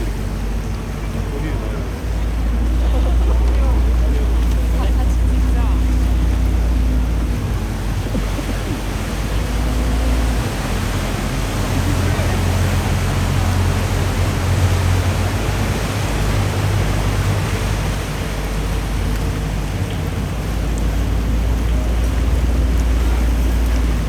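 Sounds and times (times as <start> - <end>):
motorboat engine humming: 0.0 - 24.0
water rushing along hull: 0.0 - 24.0.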